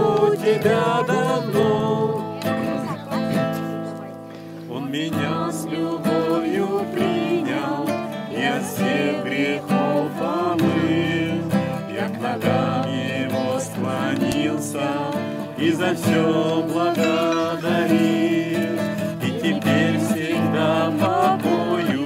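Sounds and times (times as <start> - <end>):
person singing a hymn: 0.0 - 2.9, 4.7 - 22.0
acoustic guitar strumming chords: 0.0 - 22.0.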